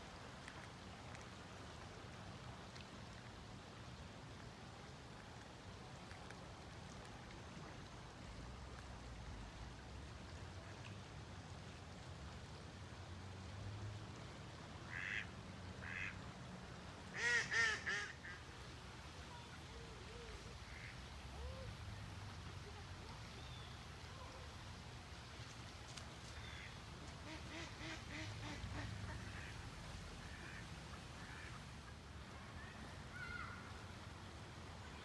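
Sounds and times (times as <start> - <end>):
low background noise: 0.0 - 35.0.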